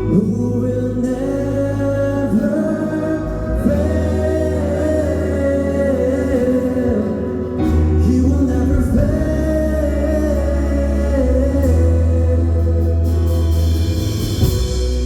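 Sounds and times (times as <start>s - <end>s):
worship band with voices singing: 0.0s - 15.0s.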